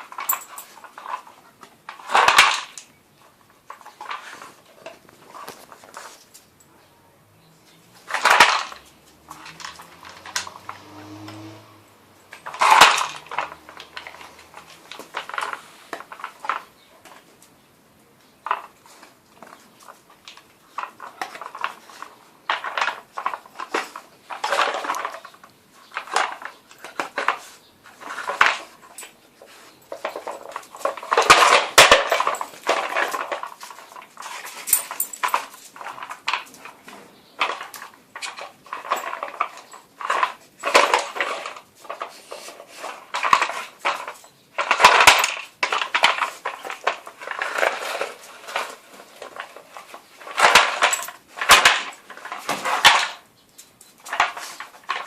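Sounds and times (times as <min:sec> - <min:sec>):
plastic toy clattering and knocking: 0:00.0 - 0:02.9, 0:08.0 - 0:11.4, 0:12.3 - 0:17.3, 0:18.4 - 0:29.1, 0:29.8 - 0:53.3, 0:53.9 - 0:55.0.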